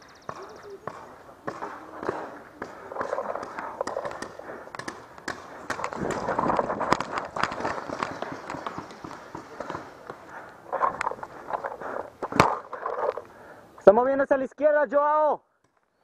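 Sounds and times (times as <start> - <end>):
running footsteps: 0.0 - 13.4
paintball markers popping: 0.2 - 13.3.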